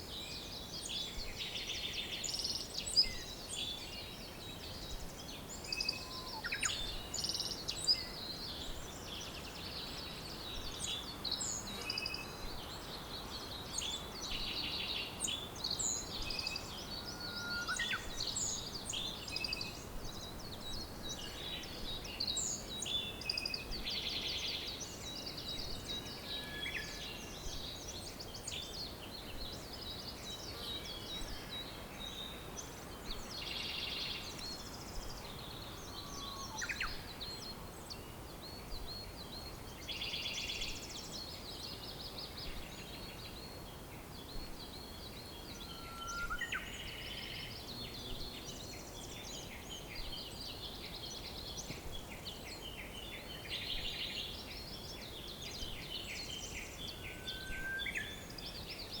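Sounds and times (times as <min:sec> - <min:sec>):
faint steady background hiss: 0:00.0 - 0:59.0
songbirds singing and chirping: 0:00.0 - 0:59.0.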